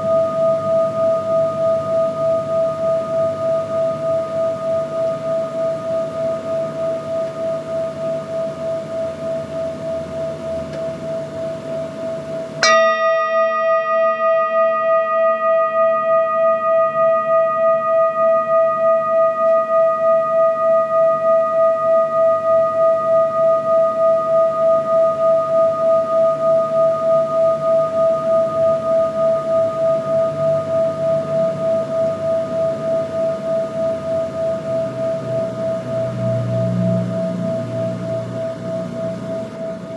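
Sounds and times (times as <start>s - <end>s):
metal singing bowl ringing: 0.0s - 39.9s
singing bowl struck: 0.0s - 39.9s.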